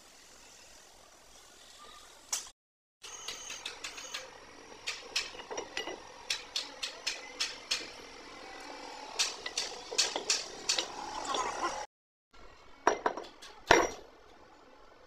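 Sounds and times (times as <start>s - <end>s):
low workshop background: 0.0s - 15.0s.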